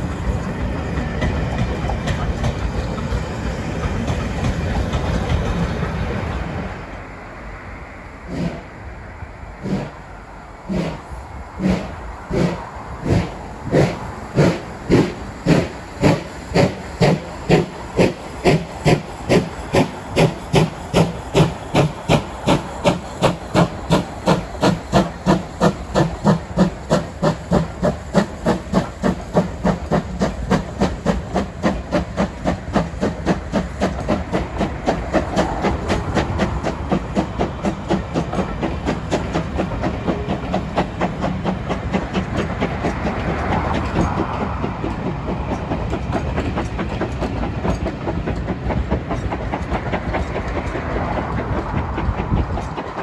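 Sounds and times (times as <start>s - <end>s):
steam locomotive exhaust beats: 0.0s - 53.0s
train coaches rolling past: 0.0s - 53.0s.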